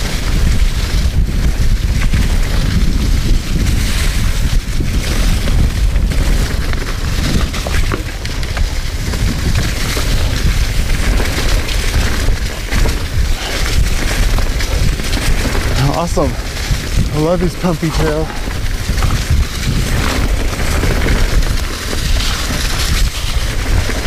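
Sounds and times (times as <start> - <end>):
bike clicks and rattles: 0.0 - 24.0
tyres rolling through dry leaves: 0.0 - 24.0
wind buffeting microphone: 0.0 - 24.0.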